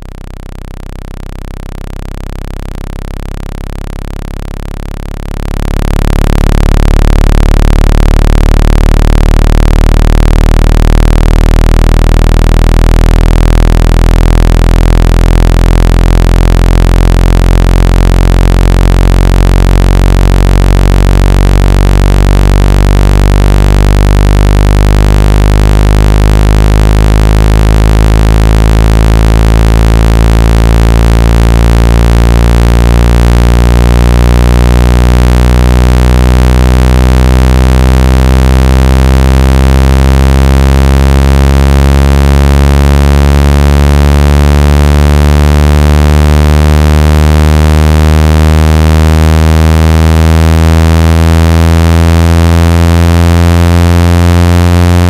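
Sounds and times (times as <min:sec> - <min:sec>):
electronic buzzing tone rising in pitch: 0:00.0 - 0:55.0.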